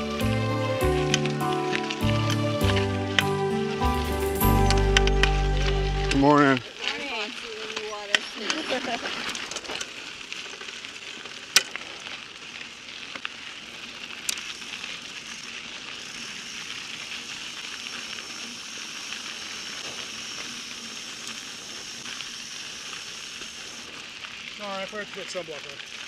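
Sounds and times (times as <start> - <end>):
bike tyres rolling over gravel: 0.0 - 26.0.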